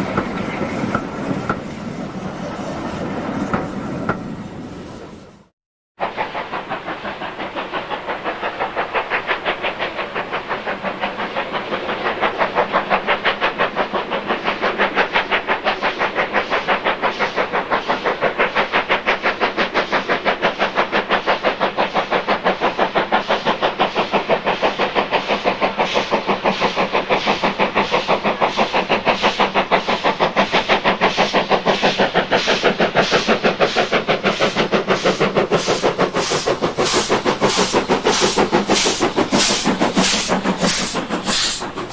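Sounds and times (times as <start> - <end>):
steam locomotive chuffing: 0.0 - 41.9.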